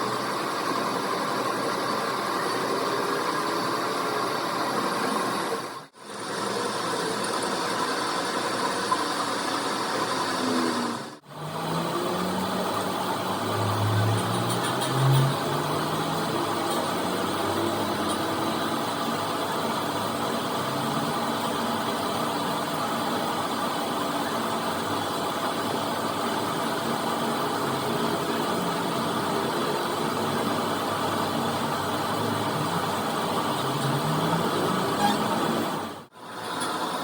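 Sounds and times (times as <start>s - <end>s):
engine-like mechanical noise: 0.0s - 37.0s.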